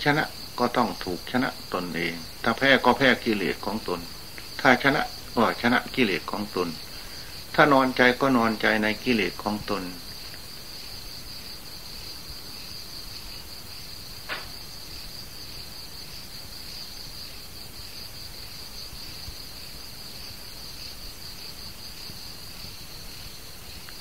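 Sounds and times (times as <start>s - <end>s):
crickets trilling: 0.0s - 24.0s
low hiss of recording noise: 0.0s - 24.0s.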